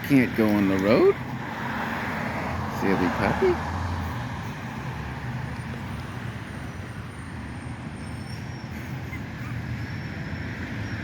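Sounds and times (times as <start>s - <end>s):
vehicles passing on road: 0.0s - 11.0s.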